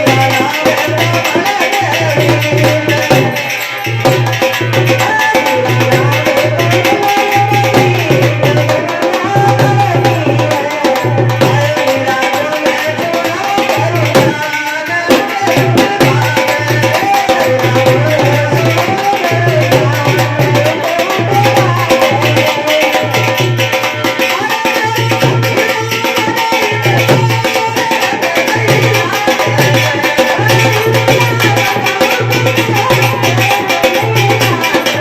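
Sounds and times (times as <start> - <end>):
hand drum rhythm: 0.0 - 35.0.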